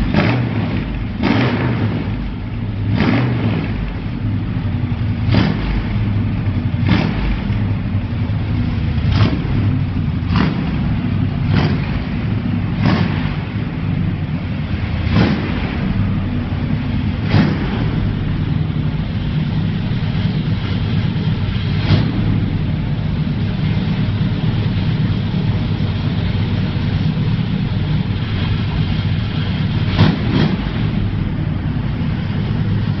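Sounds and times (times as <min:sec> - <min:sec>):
car exhaust idling: 0:00.0 - 0:33.0.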